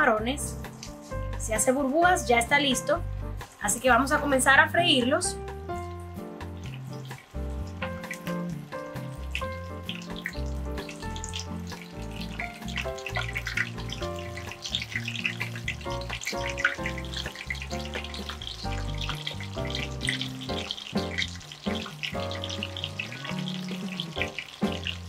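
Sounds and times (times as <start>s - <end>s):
background music with bass: 0.0s - 25.0s
shrimp frying in hot oil: 0.4s - 1.8s, 2.4s - 25.0s.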